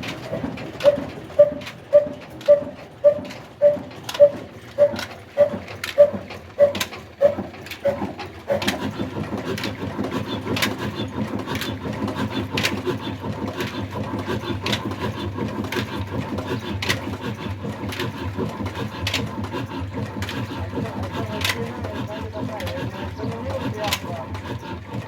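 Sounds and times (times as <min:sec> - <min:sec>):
diesel engine running: 0:00.0 - 0:25.0
sharp engine knocks: 0:00.0 - 0:25.0.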